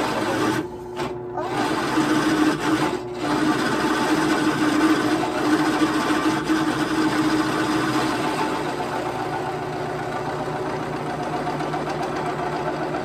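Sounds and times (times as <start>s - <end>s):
power tool motor running: 0.0s - 13.0s.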